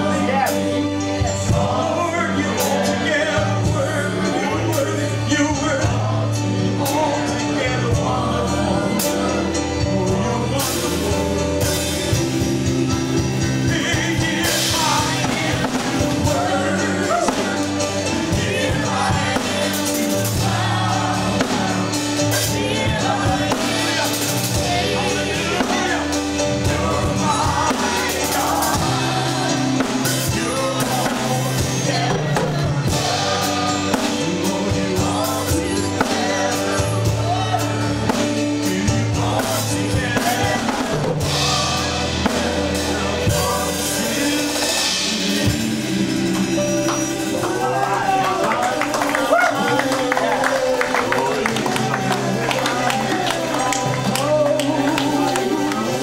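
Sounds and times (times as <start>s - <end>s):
drums keeping a beat: 0.0s - 56.0s
held bass notes: 0.0s - 56.0s
voices singing worship song: 0.0s - 56.0s.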